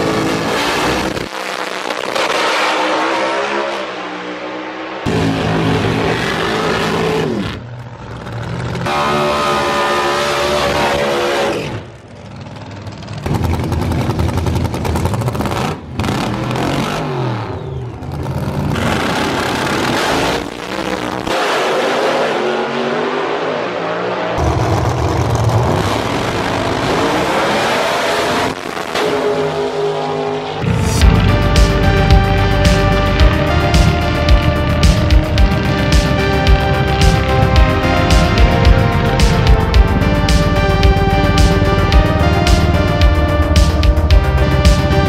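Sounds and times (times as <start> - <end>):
drag racing engines revving: 0.0 - 45.0.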